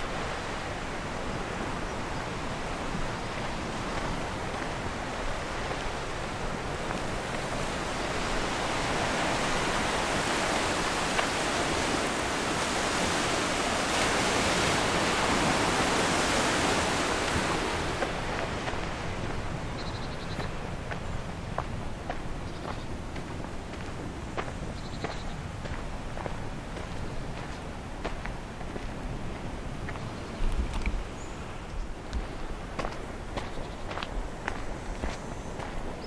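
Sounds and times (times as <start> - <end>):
sea waves washing ashore: 0.0 - 36.0.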